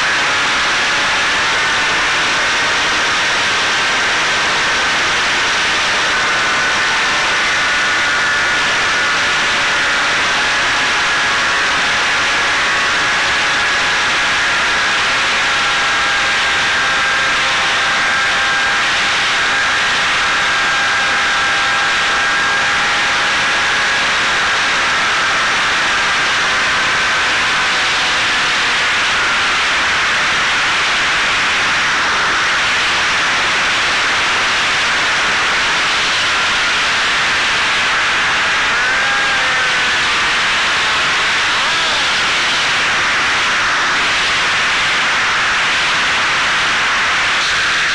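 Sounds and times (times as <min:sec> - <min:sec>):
electric motor whine: 0:00.0 - 0:47.9.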